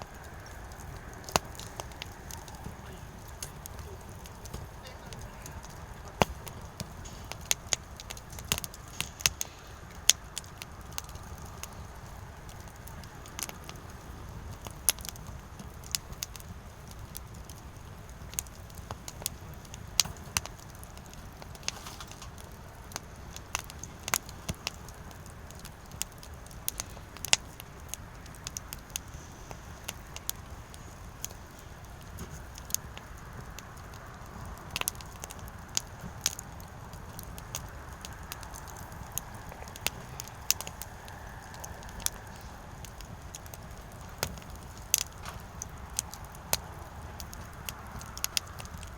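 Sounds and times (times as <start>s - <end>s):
firewood crackling and popping: 0.0s - 48.9s
low rush of flame: 0.0s - 48.9s.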